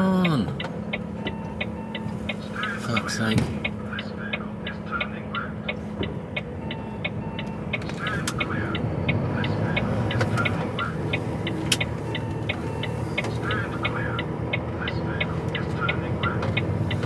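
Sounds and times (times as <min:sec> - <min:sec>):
diesel engine running: 0:00.0 - 0:17.0
indicator relay ticking: 0:00.2 - 0:17.0.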